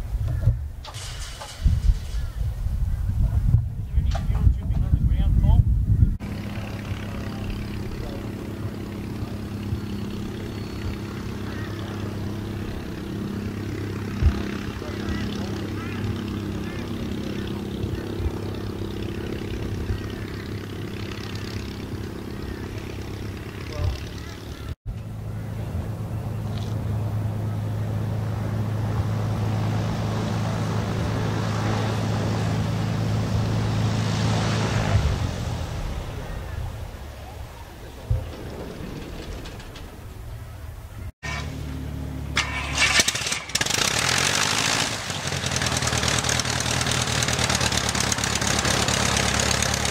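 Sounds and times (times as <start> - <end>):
propeller plane engine idling: 6.1 - 49.9.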